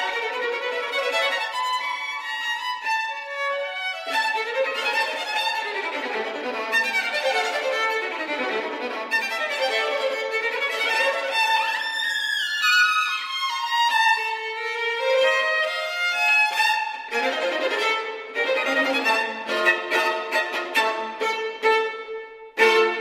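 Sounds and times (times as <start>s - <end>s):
two violins playing: 0.0s - 23.0s.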